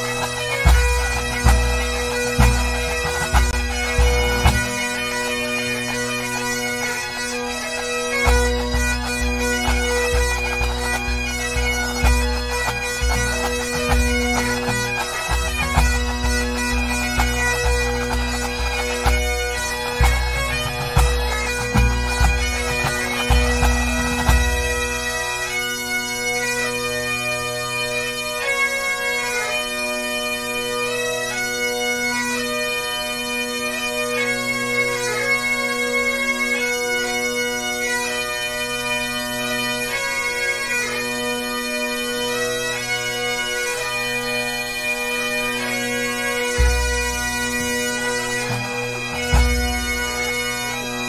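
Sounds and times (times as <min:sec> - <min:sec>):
bagpipes playing over drones: 0:00.0 - 0:51.0.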